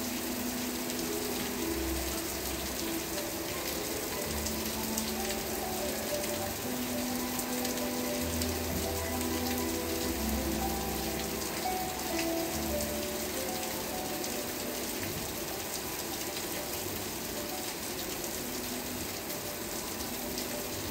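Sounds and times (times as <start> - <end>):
soft slow music: 0.0 - 20.9
steady rain falling: 0.0 - 20.9.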